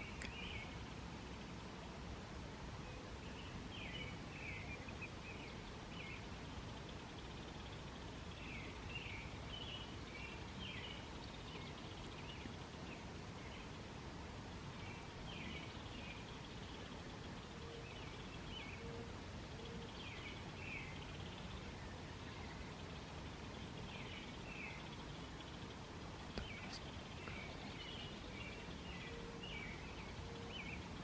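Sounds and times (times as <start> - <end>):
small birds chirping: 0.0 - 0.9, 2.9 - 31.0
low background noise: 0.0 - 31.0.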